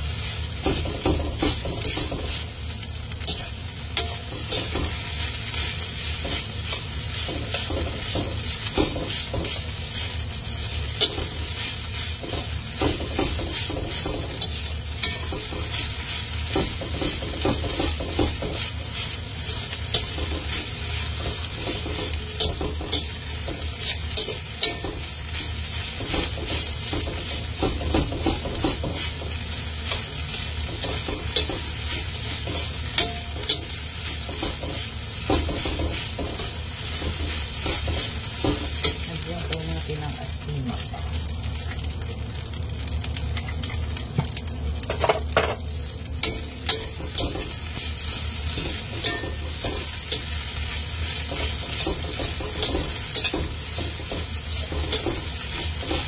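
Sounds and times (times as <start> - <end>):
spatula scraping and tapping wok: 0.0 - 40.2, 43.1 - 56.0
rice sizzling in hot oil: 0.0 - 56.0.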